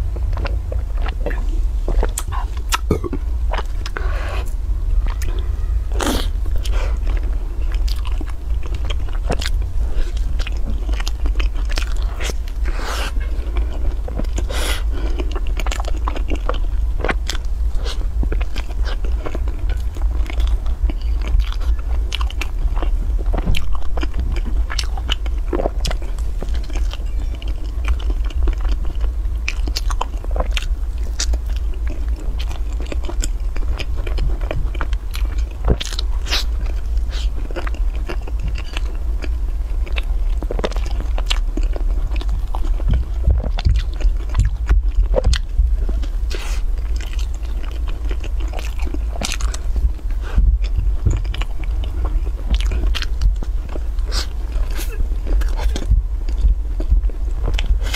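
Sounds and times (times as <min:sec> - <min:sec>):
crunchy chewing: 0:00.0 - 0:57.9
steady low hum: 0:00.0 - 0:57.9.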